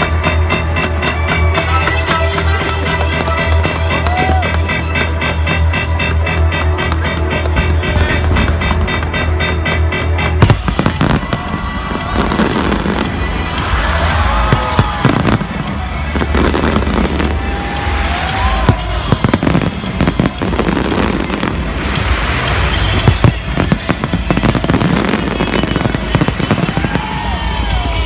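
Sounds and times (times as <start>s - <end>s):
fireworks exploding: 0.0s - 28.0s
loud music: 0.0s - 28.0s.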